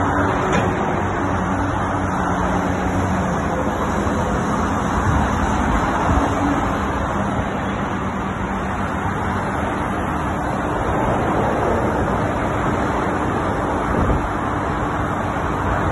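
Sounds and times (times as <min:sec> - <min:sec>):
diesel engine humming: 0:00.0 - 0:15.9
motorway traffic noise: 0:00.0 - 0:15.9.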